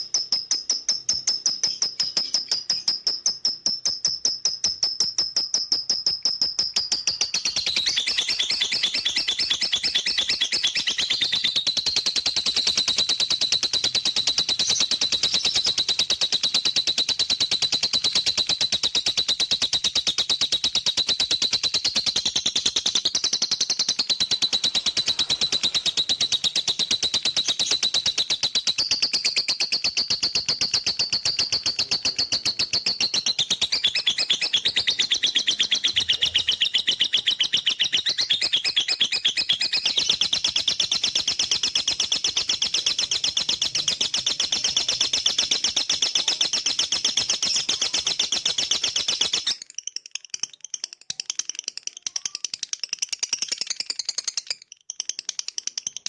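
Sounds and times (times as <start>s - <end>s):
lovebird chattering trill: 0.0s - 52.7s.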